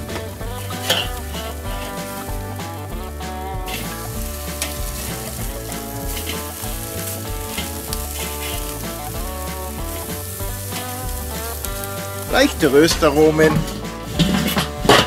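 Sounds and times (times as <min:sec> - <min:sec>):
background music with bass line: 0:00.0 - 0:15.0
burger patties sizzling on grill: 0:00.0 - 0:15.0
metal spatula scraping: 0:00.1 - 0:15.0.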